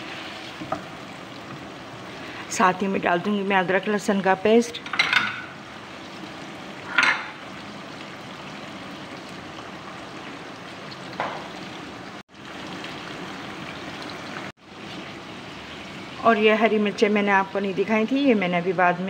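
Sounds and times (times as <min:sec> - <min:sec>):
chicken sizzling in oil: 0:00.0 - 0:18.6.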